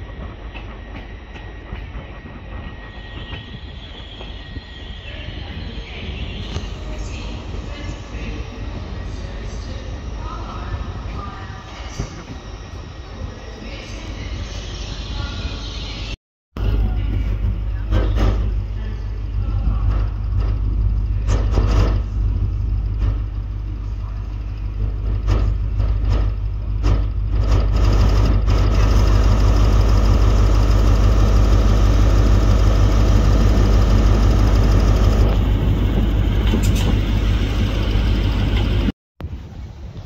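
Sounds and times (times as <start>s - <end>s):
diesel train engine rumbling: 0.0s - 40.0s.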